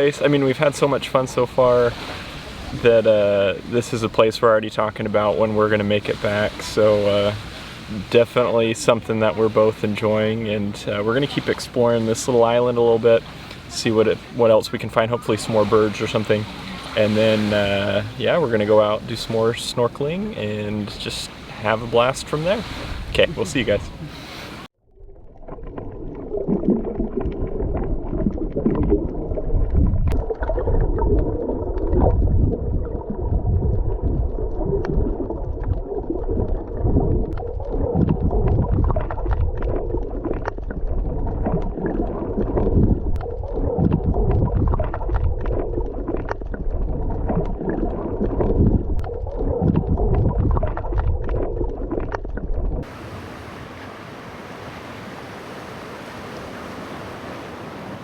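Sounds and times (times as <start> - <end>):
underwater rumbling and gurgling: 0.0 - 53.1.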